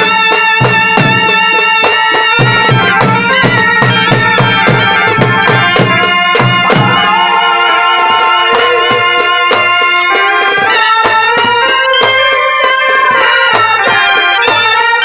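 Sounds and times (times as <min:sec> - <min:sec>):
fast drumming: 0:00.0 - 0:12.3
reed pipe melody: 0:00.0 - 0:15.0.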